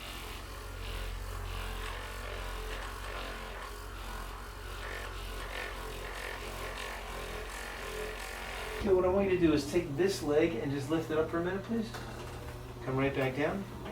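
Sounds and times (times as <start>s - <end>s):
electric massager motor hum: 0.0s - 13.9s.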